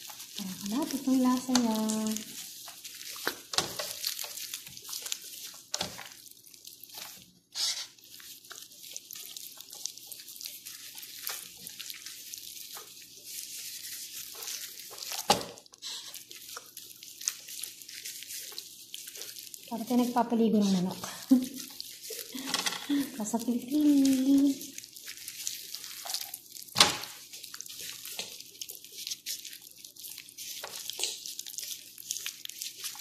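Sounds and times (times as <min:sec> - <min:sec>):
wet squelching: 0:00.0 - 0:33.0.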